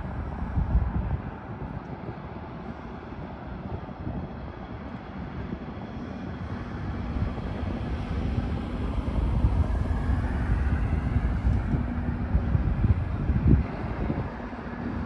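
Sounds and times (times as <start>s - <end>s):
tram rumbling on street track: 0.0s - 15.0s.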